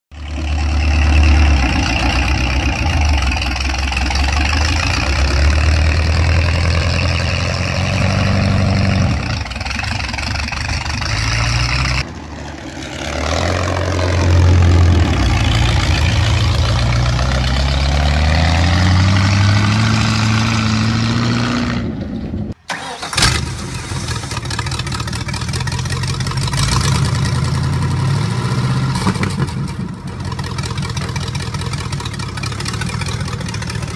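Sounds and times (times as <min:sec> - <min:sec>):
engine idling: 0:00.1 - 0:18.5, 0:21.9 - 0:28.3, 0:29.0 - 0:33.9
engine cranking and firing: 0:00.1 - 0:33.9
engine revving: 0:00.1 - 0:33.9.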